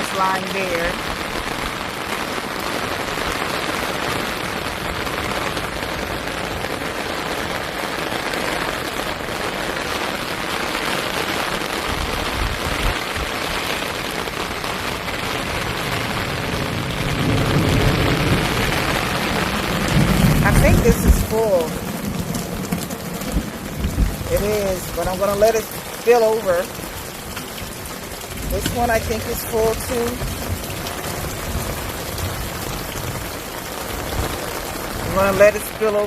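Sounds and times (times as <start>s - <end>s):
rain on leaves: 0.0s - 36.0s.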